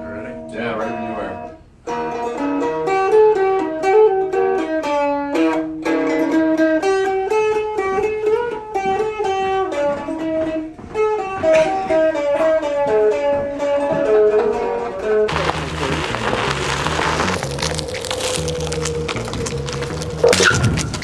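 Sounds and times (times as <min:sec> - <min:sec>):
plucked guitar melody: 0:00.3 - 0:17.7.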